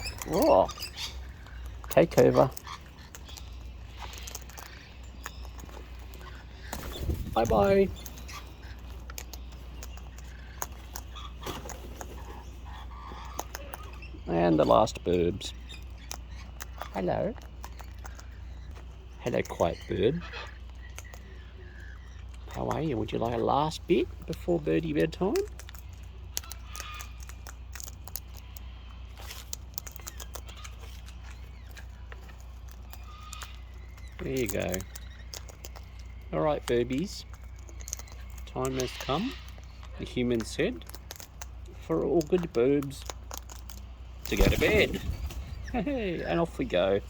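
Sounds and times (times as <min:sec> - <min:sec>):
cockatoos clicking and tapping: 0:00.0 - 0:47.0
steady low hum: 0:00.0 - 0:47.0.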